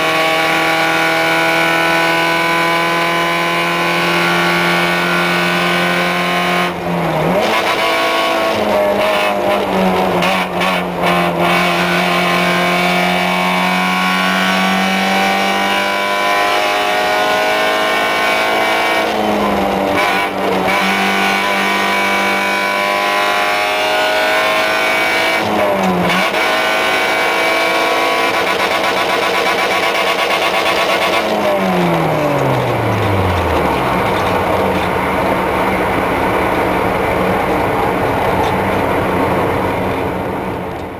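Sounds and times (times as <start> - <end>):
car engine revving: 0.0 - 40.9
road noise: 0.0 - 40.9.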